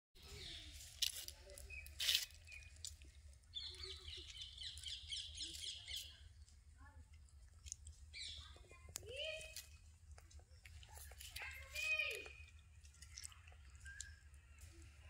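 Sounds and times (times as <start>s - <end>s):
birds chirping: 0.2s - 6.8s, 7.4s - 15.0s.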